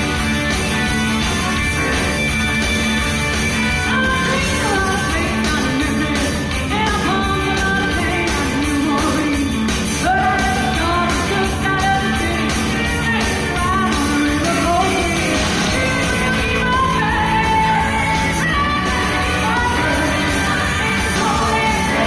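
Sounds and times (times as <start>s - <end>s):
rock band with steady beat: 0.0s - 22.0s
choir singing a rock song: 1.2s - 8.6s, 9.3s - 22.0s.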